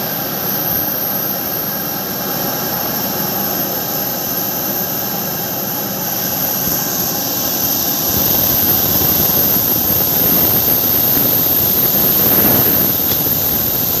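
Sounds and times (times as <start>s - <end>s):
airliner jet engines: 0.0s - 14.0s.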